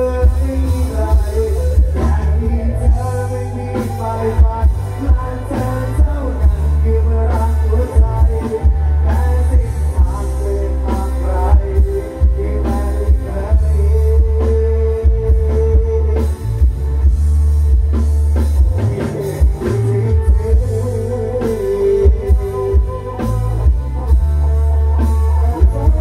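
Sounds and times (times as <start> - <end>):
man singing into microphone: 0.0 - 16.6, 18.6 - 26.0
heavy pounding bass: 0.0 - 26.0
live band over loudspeakers: 0.0 - 26.0.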